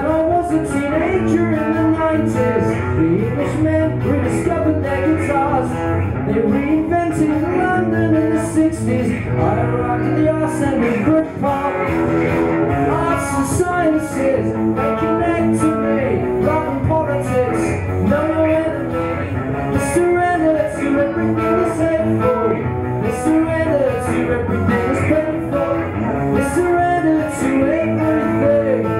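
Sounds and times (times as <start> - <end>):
electric guitar: 0.0 - 28.9
man singing into microphone: 0.0 - 28.9.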